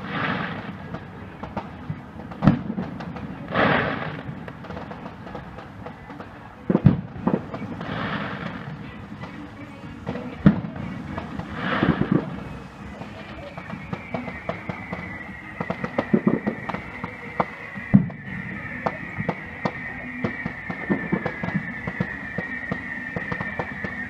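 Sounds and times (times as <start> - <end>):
firework shells bursting: 0.0 - 24.0
noisy firework bursts: 0.0 - 24.0.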